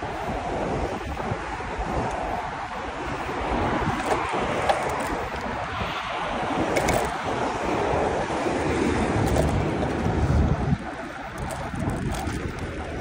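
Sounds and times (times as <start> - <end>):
road noise: 0.0 - 13.0
wind rushing over microphone: 0.0 - 13.0.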